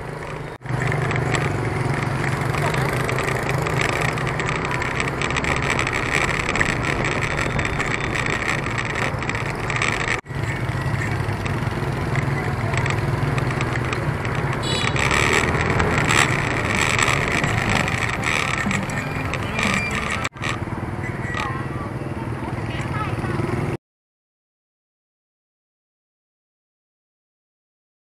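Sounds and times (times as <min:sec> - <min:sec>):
motorbike and scooter engines: 0:00.0 - 0:23.8
road and wind noise: 0:00.0 - 0:23.8.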